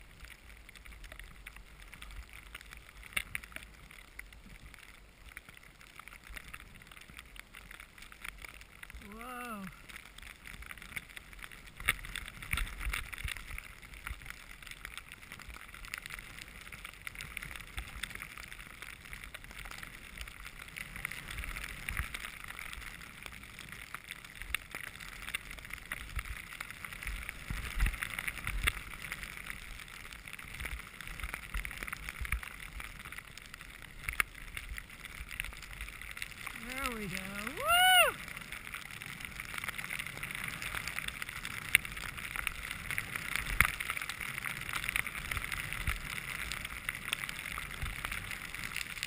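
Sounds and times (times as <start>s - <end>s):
skis sliding through snow: 0.0s - 49.0s.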